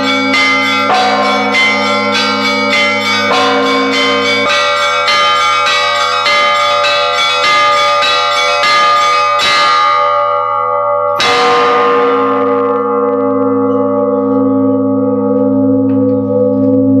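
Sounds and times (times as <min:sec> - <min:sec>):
bells ringing: 0:00.0 - 0:17.0.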